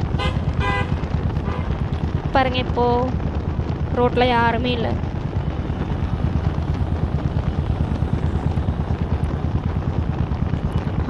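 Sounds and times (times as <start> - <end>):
fast fluttering low pulse: 0.0 - 11.0
road noise: 0.0 - 11.0
vehicle engine rumble: 0.0 - 11.0.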